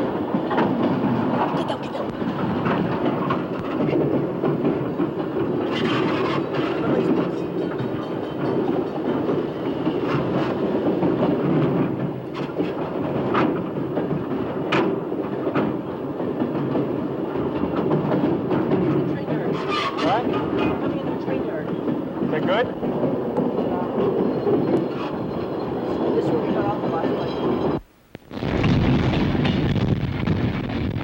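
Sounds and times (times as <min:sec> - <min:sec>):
freight train rumbling and rattling: 0:00.0 - 0:27.8, 0:28.4 - 0:31.0.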